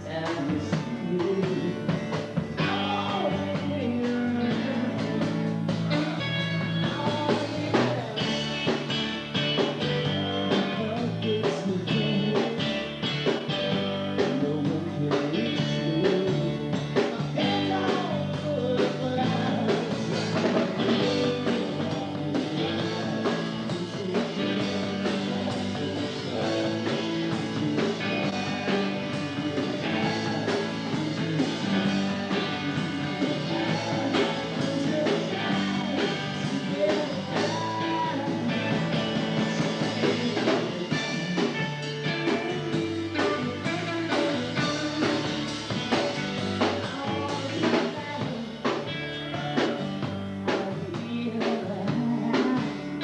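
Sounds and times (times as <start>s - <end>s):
drums: 0.0s - 53.0s
electric guitar: 0.0s - 53.0s
person singing: 0.0s - 53.0s.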